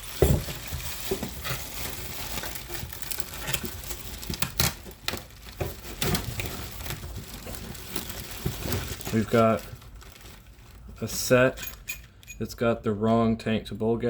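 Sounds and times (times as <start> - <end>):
packaging rustling and crinkling: 0.0 - 12.2.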